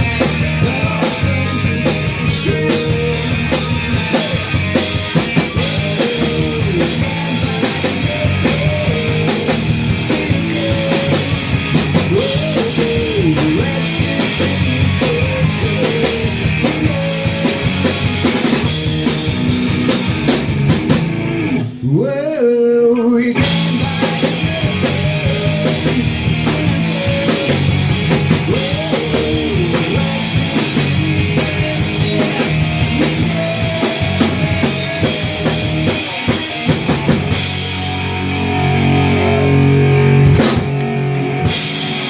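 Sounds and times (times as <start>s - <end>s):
punk rock band playing: 0.0s - 22.2s, 23.3s - 42.0s.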